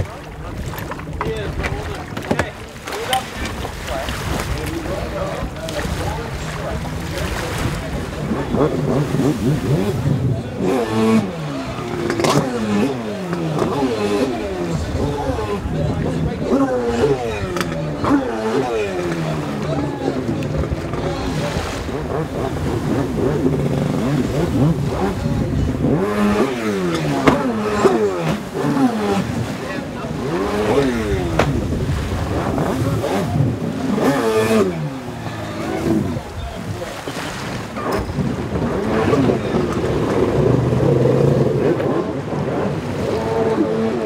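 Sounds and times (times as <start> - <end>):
jet ski engine revving: 0.0 - 44.0.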